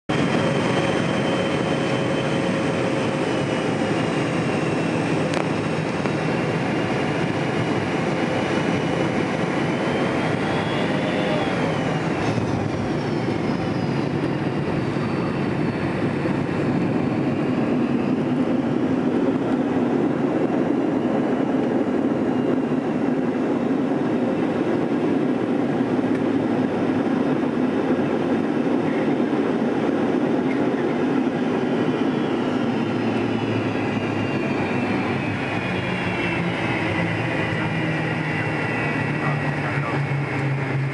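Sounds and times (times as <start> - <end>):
deep runway rumble: 0.0 - 40.9
jet engine rush in cabin: 0.1 - 40.9
thin engine whine: 0.1 - 40.9.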